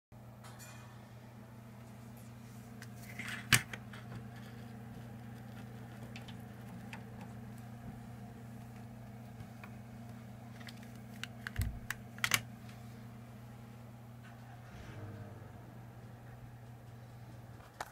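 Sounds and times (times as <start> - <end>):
computer humming: 1.2 - 17.9.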